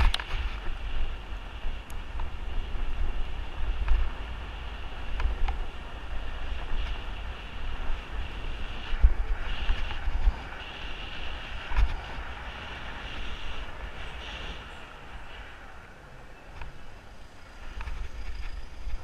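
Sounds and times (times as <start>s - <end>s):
bike tyres rumbling on road: 0.0s - 19.0s
wind buffeting microphone: 0.0s - 19.0s.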